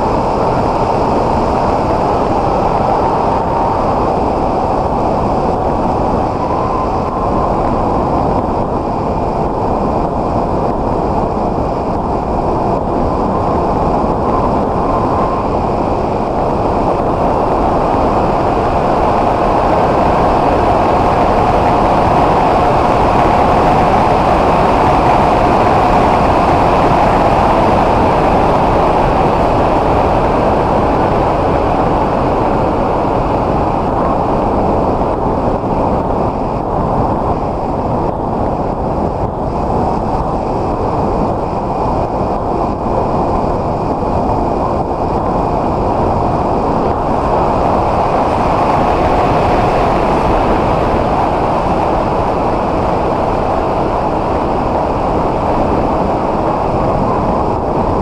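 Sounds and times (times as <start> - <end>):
wind noise: 0.0 - 58.0.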